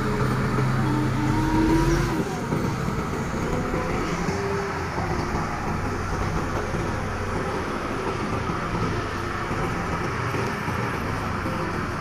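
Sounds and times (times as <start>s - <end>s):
bulldozer diesel engine under load: 0.0s - 12.0s.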